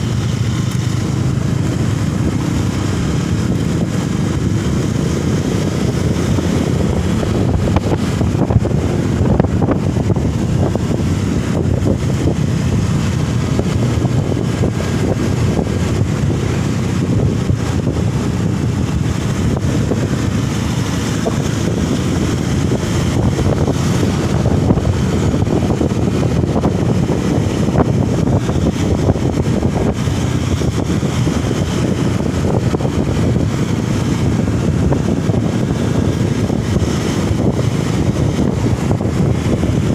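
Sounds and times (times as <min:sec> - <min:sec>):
vehicle rumble: 0:00.0 - 0:39.9
wind buffeting microphone: 0:00.0 - 0:39.9.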